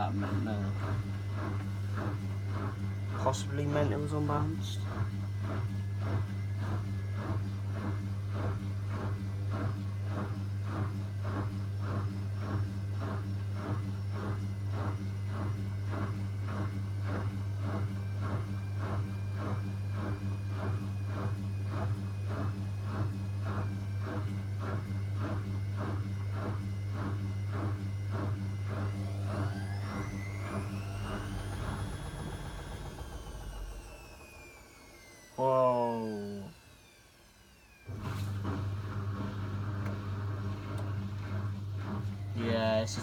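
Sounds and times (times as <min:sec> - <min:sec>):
motor rising whine: 0:00.0 - 0:43.0
washing machine motor humming: 0:00.0 - 0:43.0.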